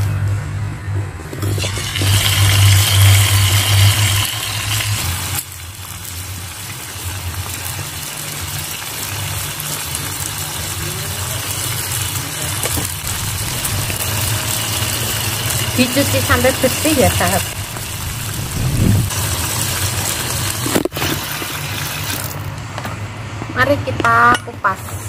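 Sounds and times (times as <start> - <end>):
low machine hum: 0.0 - 6.3, 10.7 - 24.8.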